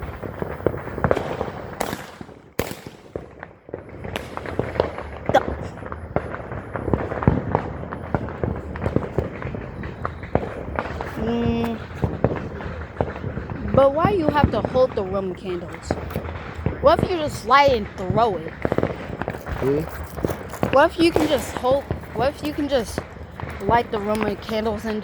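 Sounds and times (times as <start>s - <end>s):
fireworks popping and crackling: 0.0s - 25.0s
sharp firework bangs: 0.0s - 25.0s.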